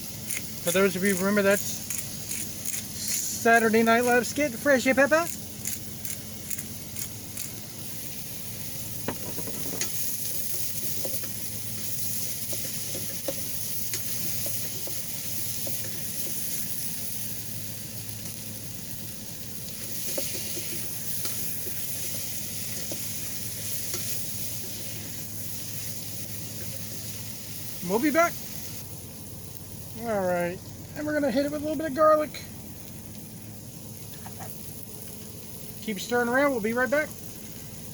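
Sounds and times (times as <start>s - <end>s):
vegetables sizzling in oil: 0.0s - 37.9s.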